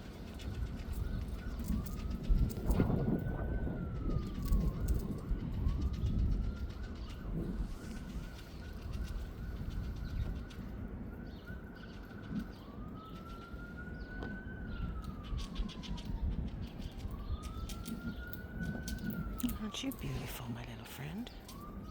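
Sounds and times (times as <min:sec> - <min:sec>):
emergency siren wailing: 0:00.0 - 0:21.9
low wind rumble: 0:00.0 - 0:21.9.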